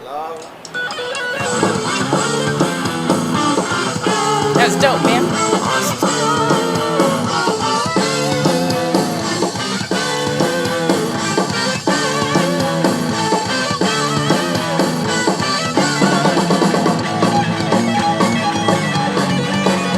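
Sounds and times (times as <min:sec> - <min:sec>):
rock music with drums and guitar: 0:00.8 - 0:19.9.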